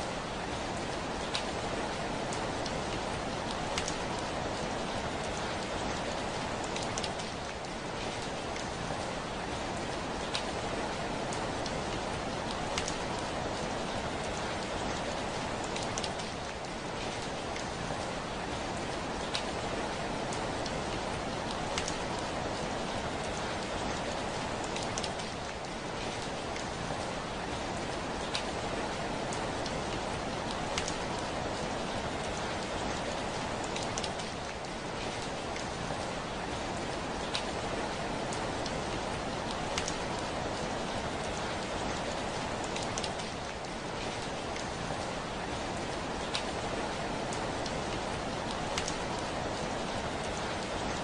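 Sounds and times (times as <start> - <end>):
rain pattering on a window: 0.0 - 51.0.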